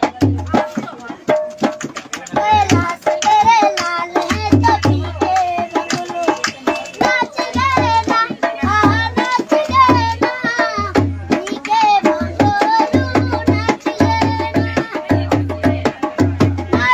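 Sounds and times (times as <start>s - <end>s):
hand drum beat: 0.0s - 16.9s
boy singing folk melody: 1.7s - 16.9s.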